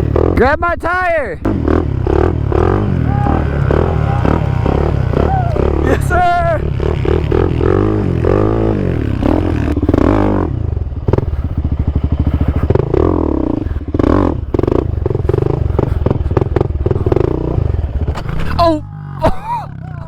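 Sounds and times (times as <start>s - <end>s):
quad engine revving hard: 1.4s - 20.0s.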